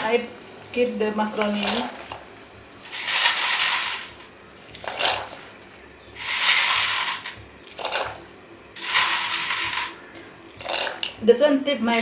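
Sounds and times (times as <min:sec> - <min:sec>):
boiling water: 0:00.0 - 0:12.0.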